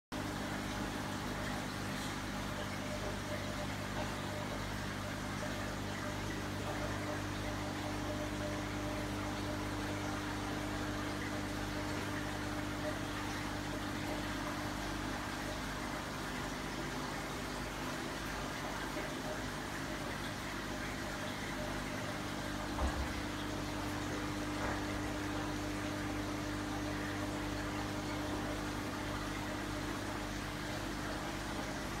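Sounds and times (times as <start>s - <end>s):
aquarium pump humming: 0.2s - 32.0s.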